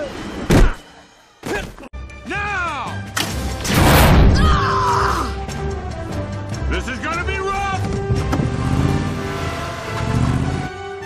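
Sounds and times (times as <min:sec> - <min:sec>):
film music: 0:00.0 - 0:11.0.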